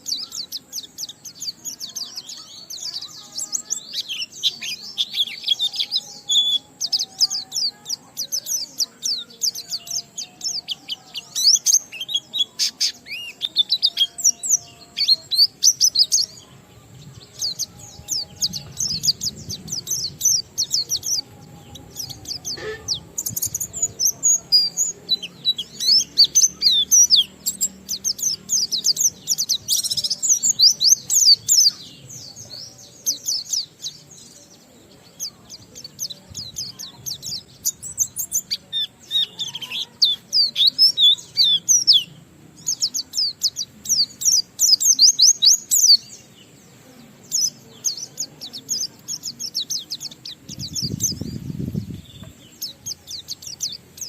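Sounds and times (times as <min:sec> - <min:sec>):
bird warbling song: 0:00.0 - 0:54.0.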